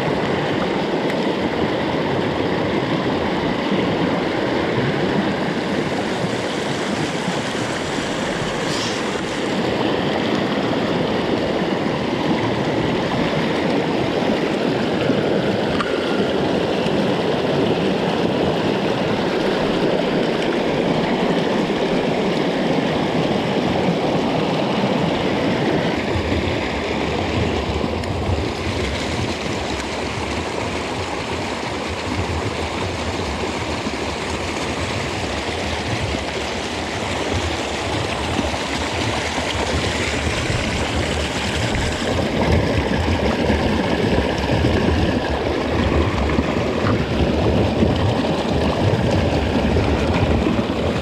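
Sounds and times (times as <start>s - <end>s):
stream water running over rocks: 0.0s - 51.0s.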